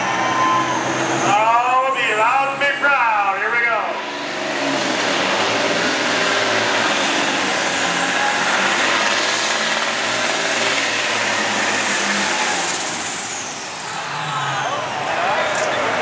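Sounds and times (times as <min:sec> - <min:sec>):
tractor diesel engine at full power: 0:00.0 - 0:16.0.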